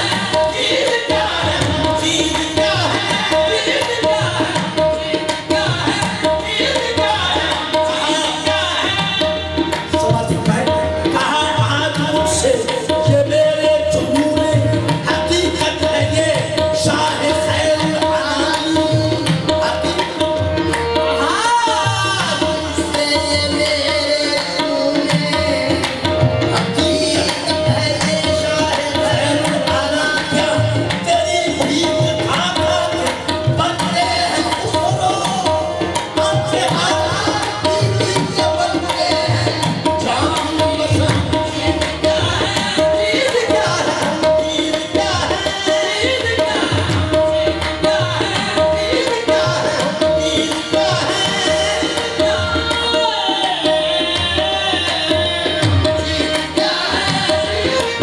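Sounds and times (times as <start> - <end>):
hand drum rhythm: 0.0 - 58.0
harmonium: 0.0 - 58.0.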